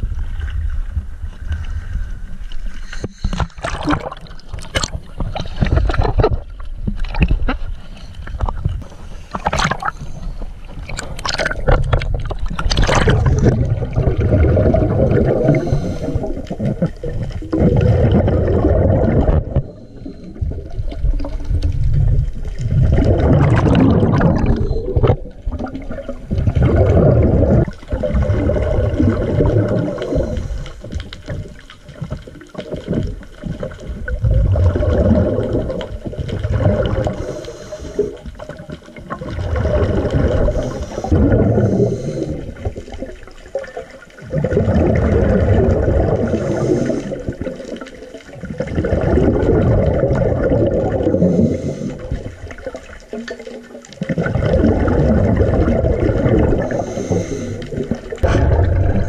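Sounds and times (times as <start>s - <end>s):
underwater gurgling bubbles: 0.0s - 59.0s.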